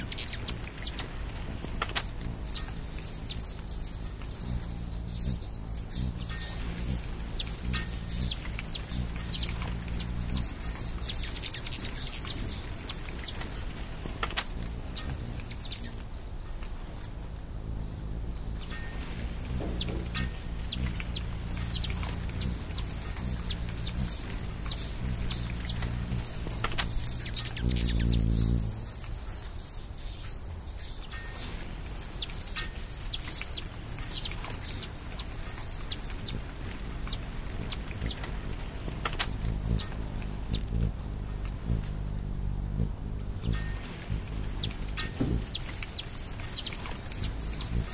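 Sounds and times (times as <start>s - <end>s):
bird chirps: 0.0s - 17.0s, 17.9s - 41.8s, 43.1s - 47.9s
low hum: 0.0s - 29.8s, 31.0s - 47.9s
insects trilling: 0.0s - 47.9s.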